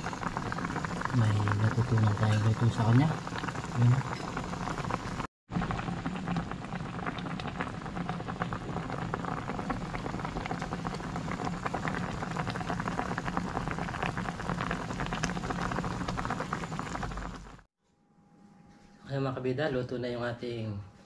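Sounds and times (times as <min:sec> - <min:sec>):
broth boiling and bubbling: 0:00.0 - 0:17.7.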